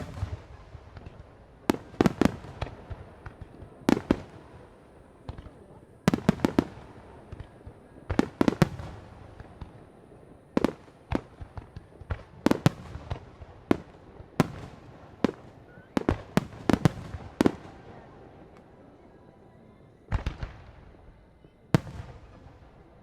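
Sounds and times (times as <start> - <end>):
fireworks bangs: 0.0 - 19.0, 20.1 - 23.0.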